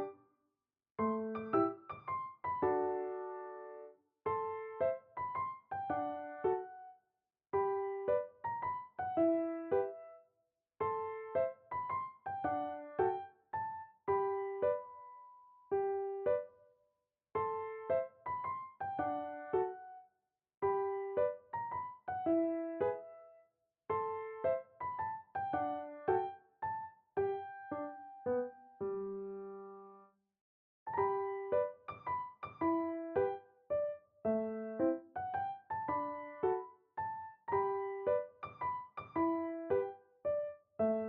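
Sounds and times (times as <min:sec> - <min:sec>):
soft solo piano music: 0:01.0 - 0:07.0, 0:07.6 - 0:10.2, 0:10.8 - 0:16.6, 0:17.4 - 0:30.1, 0:30.9 - 0:41.0.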